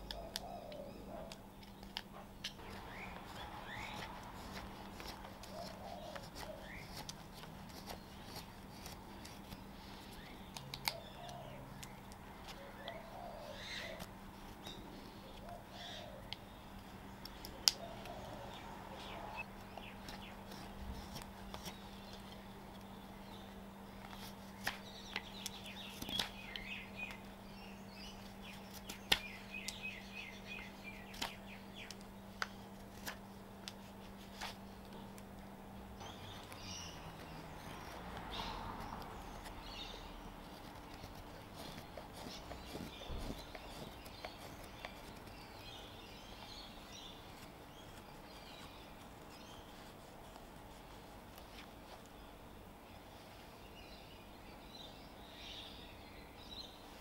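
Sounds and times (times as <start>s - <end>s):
faint steady hum: 0.0s - 57.0s
small birds chirping: 0.0s - 57.0s.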